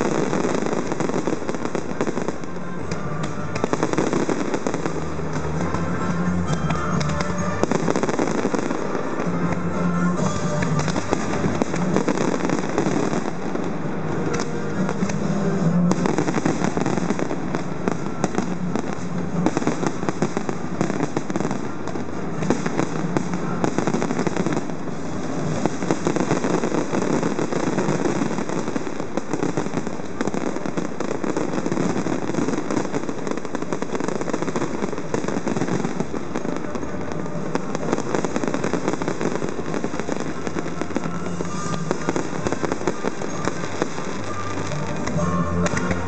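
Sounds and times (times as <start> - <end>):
fireworks crackling and popping: 0.0 - 46.0.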